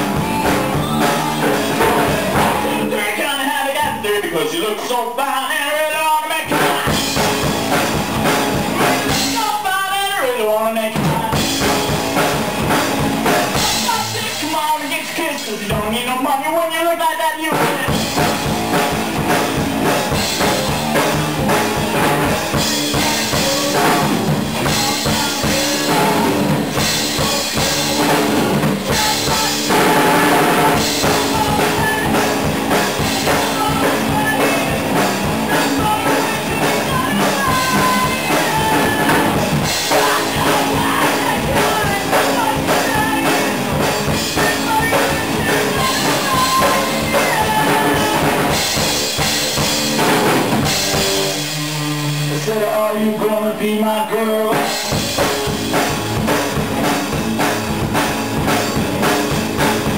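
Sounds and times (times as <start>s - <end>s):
electric guitar: 0.0s - 4.0s, 6.4s - 14.4s, 17.5s - 59.9s
drum kit steady beat: 0.0s - 4.6s, 6.4s - 16.2s, 17.5s - 53.6s, 54.5s - 59.9s.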